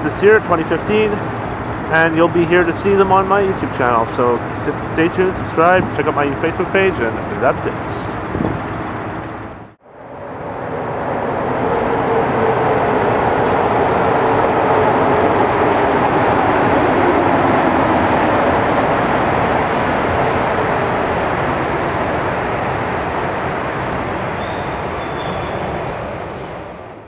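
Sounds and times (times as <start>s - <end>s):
metro train running: 0.0s - 27.0s.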